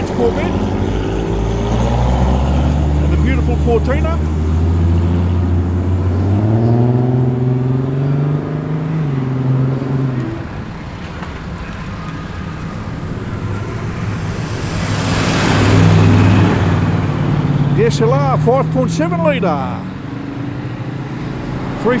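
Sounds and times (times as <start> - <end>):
car approaching: 0.0 - 22.0
car engine accelerating: 0.0 - 22.0.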